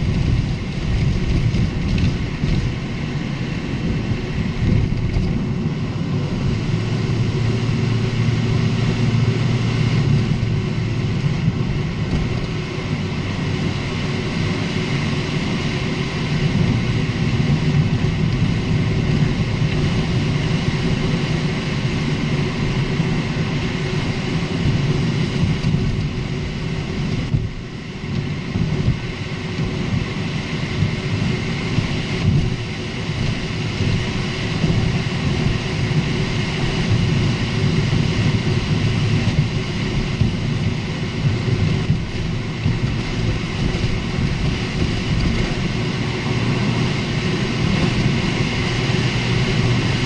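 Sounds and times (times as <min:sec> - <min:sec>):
car road and engine noise: 0:00.0 - 0:50.0.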